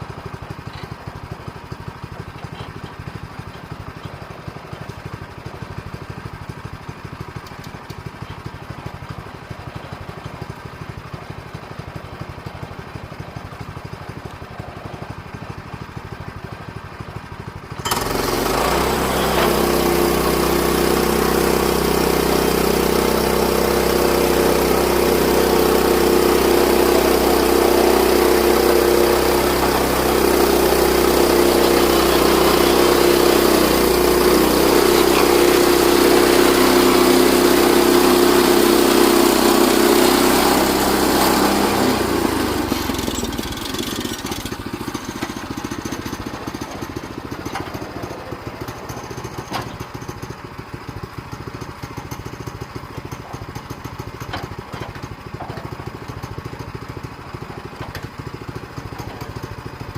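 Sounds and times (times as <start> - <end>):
gas engine idling and revving: 0.0 - 59.9.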